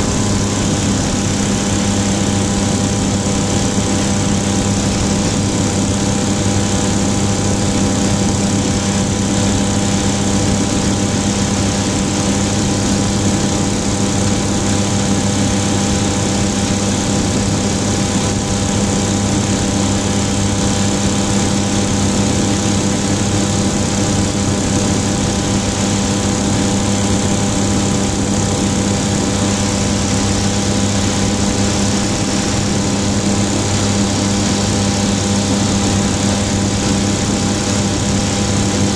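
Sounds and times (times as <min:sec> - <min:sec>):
aircraft engine and propeller running: 0:00.0 - 0:38.9.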